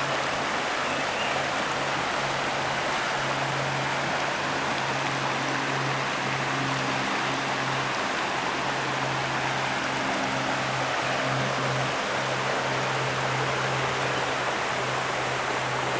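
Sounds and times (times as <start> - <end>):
rushing river: 0.0 - 15.9.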